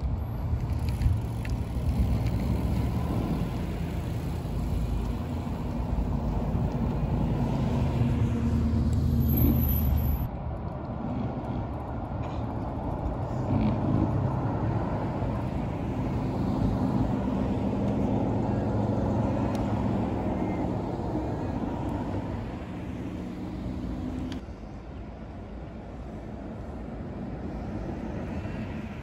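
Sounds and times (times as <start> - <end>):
cars driving past: 0.0 - 24.4.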